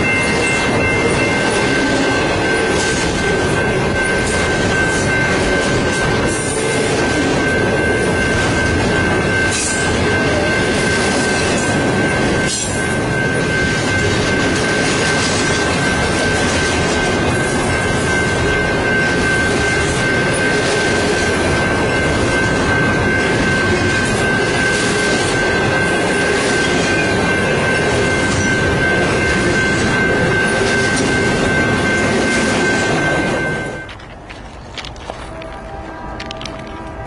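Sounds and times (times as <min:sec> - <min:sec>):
freight train rumbling past: 0:00.0 - 0:37.0.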